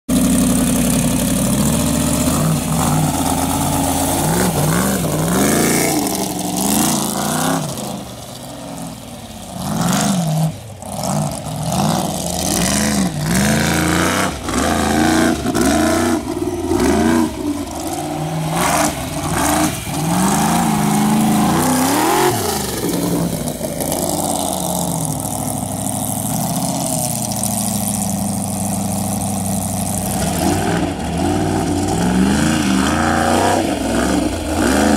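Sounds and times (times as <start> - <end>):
buggy engine revving: 0.1 - 34.9.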